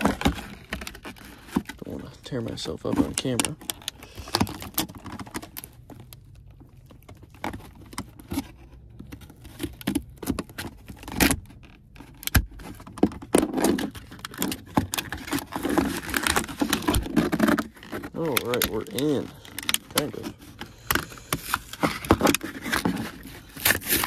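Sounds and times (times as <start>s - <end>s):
packaging crackling and scraping: 0.0s - 24.0s.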